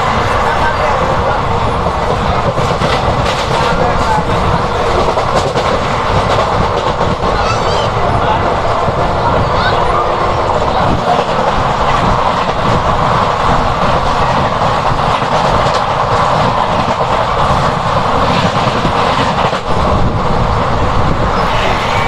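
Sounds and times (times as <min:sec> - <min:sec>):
train rushing past: 0:00.0 - 0:22.0
wheels clattering on rails: 0:00.0 - 0:22.0.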